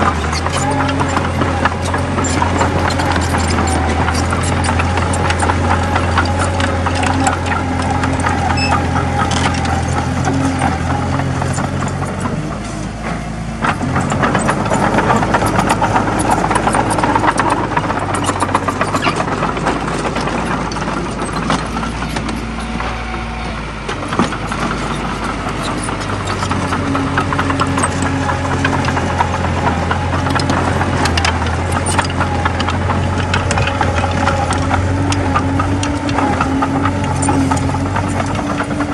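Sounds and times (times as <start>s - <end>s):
bulldozer diesel engine running: 0.0s - 38.9s
clatter of clicks and rattles: 0.0s - 38.9s.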